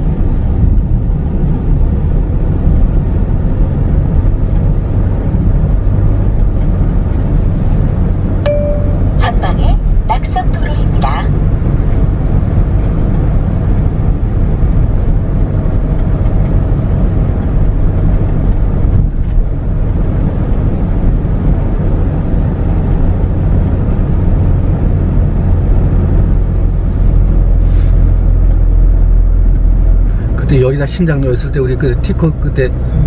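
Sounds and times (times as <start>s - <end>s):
car engine and tyre noise inside: 0.0s - 33.0s.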